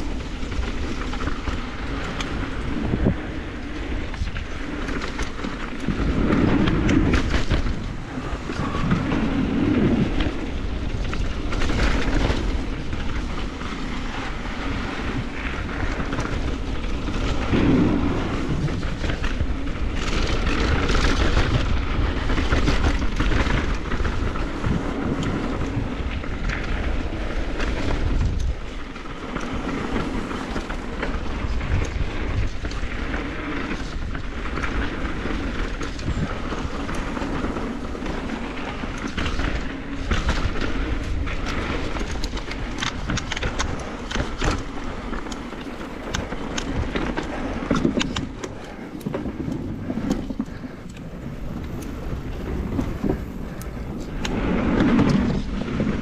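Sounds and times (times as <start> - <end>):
bike rattling over bumps: 0.0 - 56.0
bike tyres crunching over dirt: 0.0 - 56.0
wind rumble on microphone: 0.0 - 56.0.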